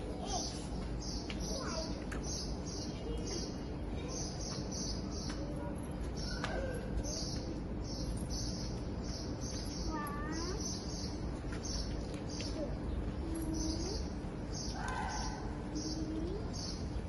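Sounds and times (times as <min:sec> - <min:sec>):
low outdoor hum: 0:00.0 - 0:17.0
small birds chirping: 0:00.0 - 0:17.0.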